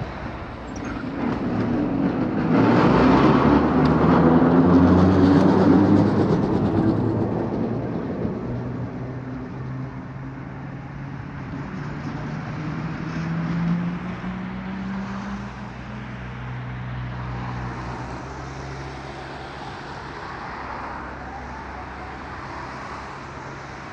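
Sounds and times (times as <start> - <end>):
passing cars rushing: 0.0 - 23.9
vehicle engine hum: 0.0 - 23.9.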